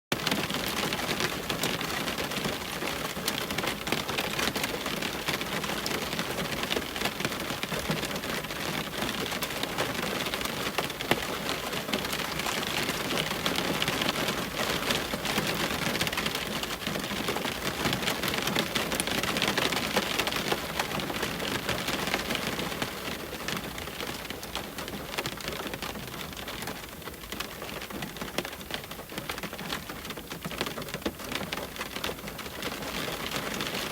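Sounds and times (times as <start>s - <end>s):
rain hitting a window: 0.1s - 33.9s.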